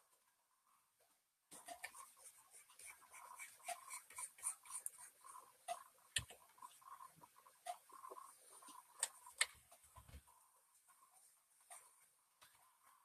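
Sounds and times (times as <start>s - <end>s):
stylus scratching on tablet: 1.5s - 13.0s.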